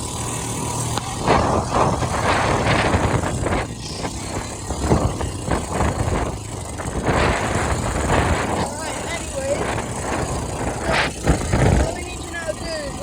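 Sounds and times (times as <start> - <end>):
quad bike engine droning: 0.0 - 13.0
wind rushing: 0.7 - 12.4.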